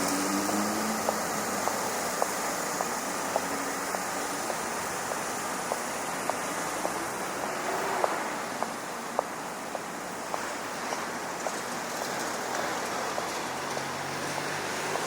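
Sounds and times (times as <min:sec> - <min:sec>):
water rushing: 0:00.0 - 0:15.0
wind: 0:00.0 - 0:15.0.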